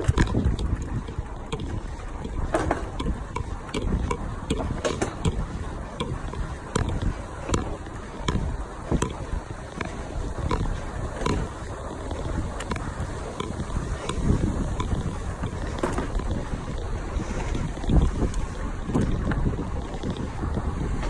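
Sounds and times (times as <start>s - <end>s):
bike knocks and rattles: 0.0s - 21.0s
wind and tyre rumble: 0.0s - 21.0s.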